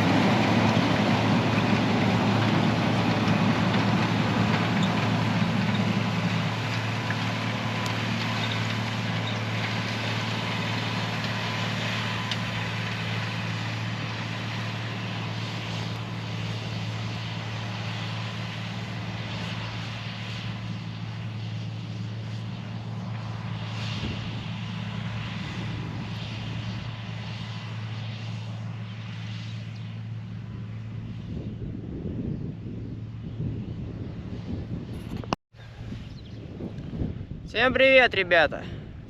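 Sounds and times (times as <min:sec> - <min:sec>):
tractor diesel engine drone: 0:00.0 - 0:39.0.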